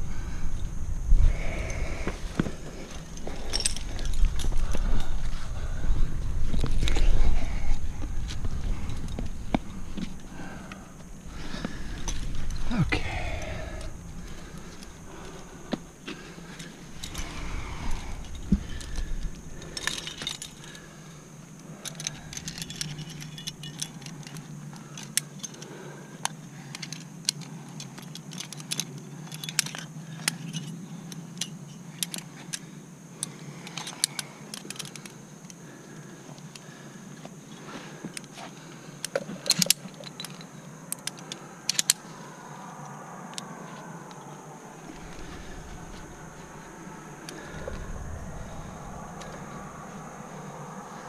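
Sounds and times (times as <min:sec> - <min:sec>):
carabiners clinking: 0:00.0 - 0:42.2, 0:44.1 - 0:51.0.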